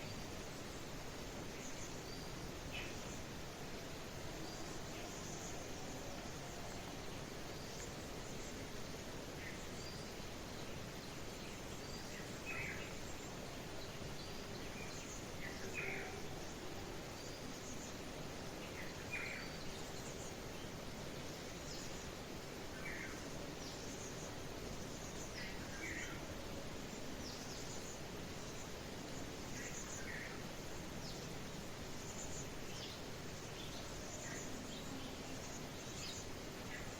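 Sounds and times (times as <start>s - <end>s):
steady background hiss: 0.0s - 36.9s.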